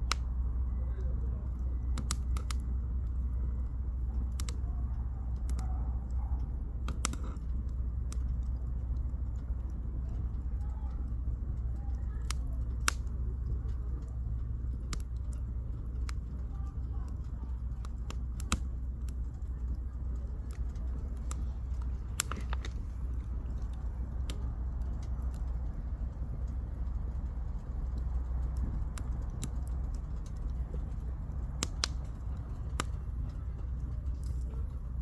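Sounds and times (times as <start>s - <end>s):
campfire crackling and popping: 0.0s - 35.0s
low fire rumble: 0.0s - 35.0s.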